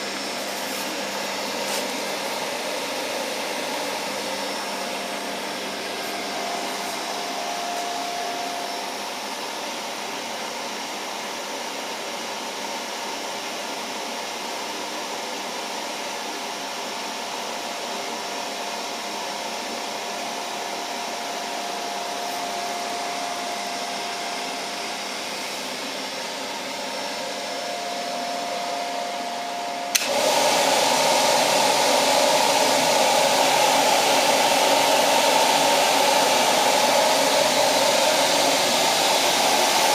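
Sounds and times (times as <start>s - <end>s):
blower fan running: 0.0s - 39.9s.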